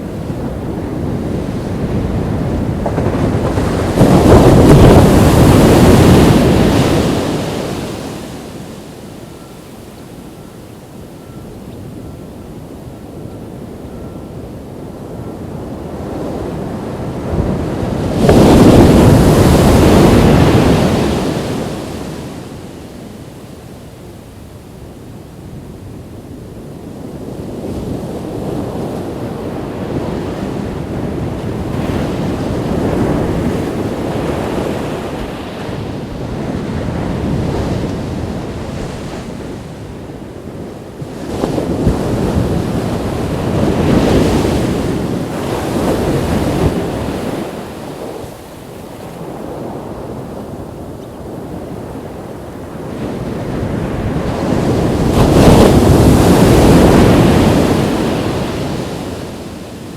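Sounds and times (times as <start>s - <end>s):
ocean surf breaking on a beach: 0.0s - 59.9s.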